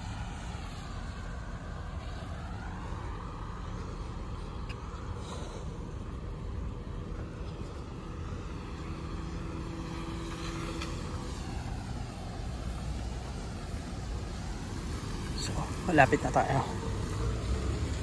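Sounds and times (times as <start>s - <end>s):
vehicle rumbling on road: 0.0s - 18.0s.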